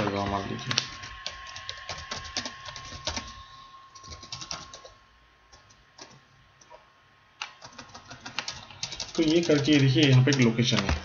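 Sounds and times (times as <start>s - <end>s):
computer keyboard typing: 0.0s - 3.3s, 4.0s - 6.2s, 7.4s - 11.0s.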